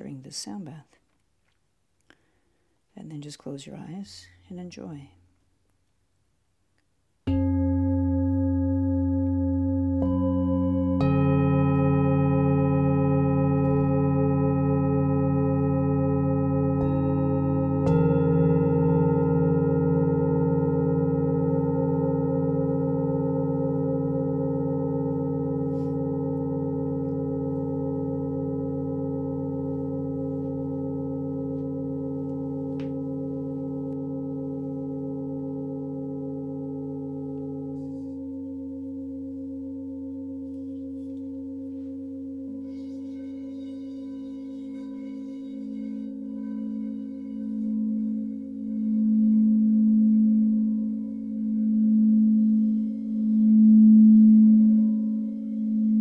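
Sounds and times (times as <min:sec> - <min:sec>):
crystal singing bowls ringing: 0:07.3 - 0:56.0.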